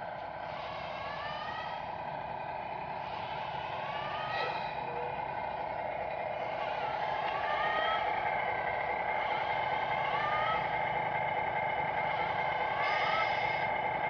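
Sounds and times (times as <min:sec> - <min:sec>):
model truck motor hum and whine: 0:00.0 - 0:14.0.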